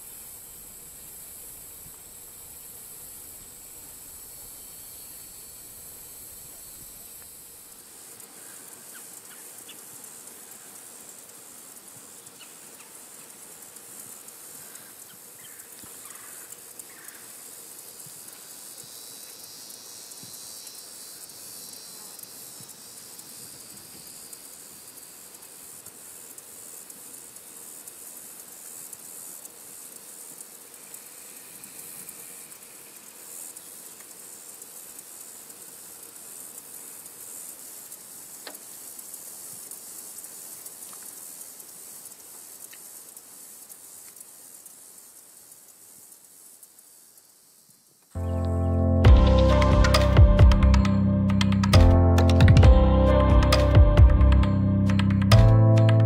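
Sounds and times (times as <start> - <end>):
buzzing insect trill: 0.0 - 56.0
high-pitched insect chorus: 0.0 - 56.0.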